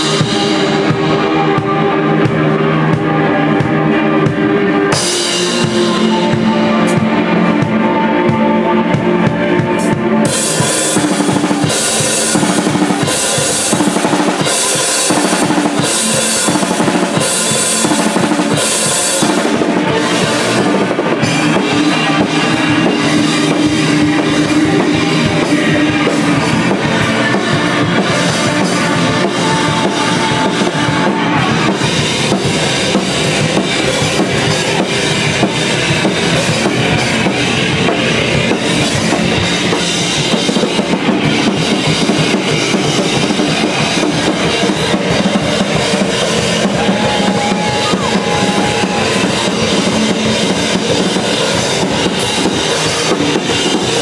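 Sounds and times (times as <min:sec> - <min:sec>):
drum kit steady beat: 0:00.0 - 0:54.0
loud ambient band playing live: 0:00.0 - 0:54.0.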